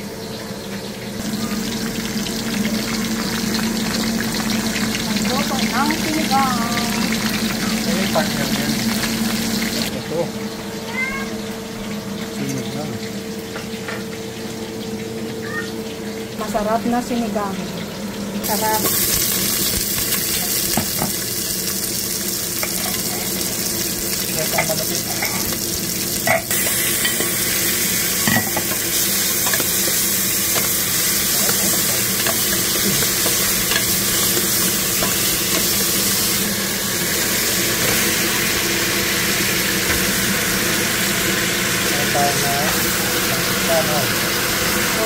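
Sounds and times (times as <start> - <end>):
meat sizzling in a pot: 0.0 - 45.0.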